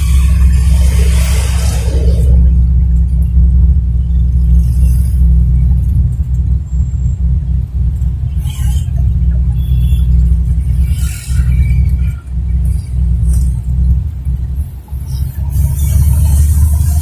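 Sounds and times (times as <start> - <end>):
minibus engine rumble: 0.0 - 17.0
road noise: 0.0 - 17.0.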